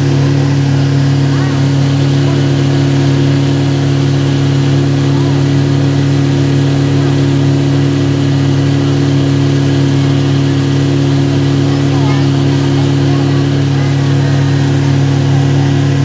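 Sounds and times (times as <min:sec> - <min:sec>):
engine low drone: 0:00.0 - 0:16.0.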